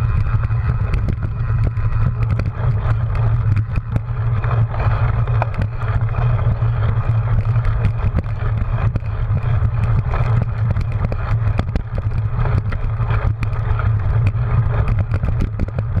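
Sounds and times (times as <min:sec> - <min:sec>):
bike clicks and rattles: 0:00.0 - 0:16.0
wind rumbling on microphone: 0:00.0 - 0:16.0.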